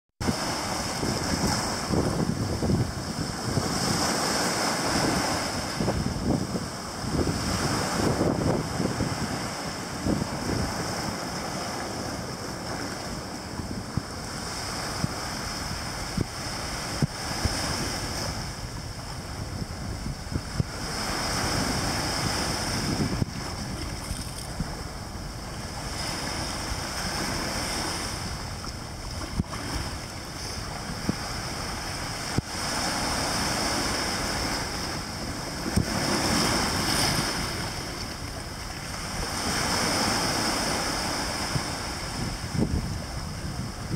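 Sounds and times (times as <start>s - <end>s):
small waves on sandy beach: 0.2s - 43.9s
wind buffeting microphone: 0.2s - 43.9s.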